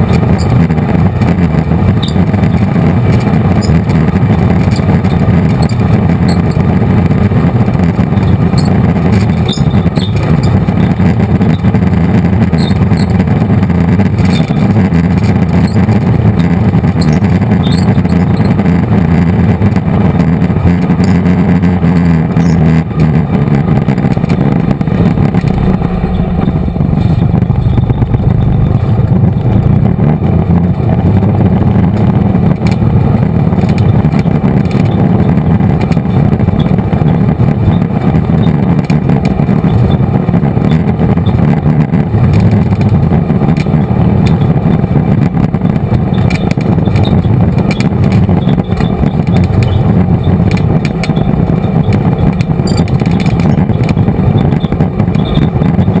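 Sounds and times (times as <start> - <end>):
off-road vehicle engine: 0.0 - 56.0
rumble from rough ground: 0.0 - 56.0.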